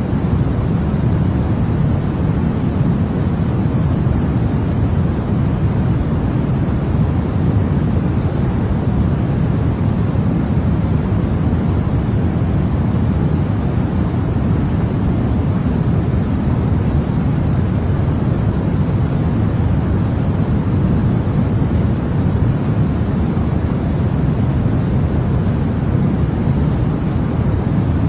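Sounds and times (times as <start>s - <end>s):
white noise: 0.0s - 28.0s.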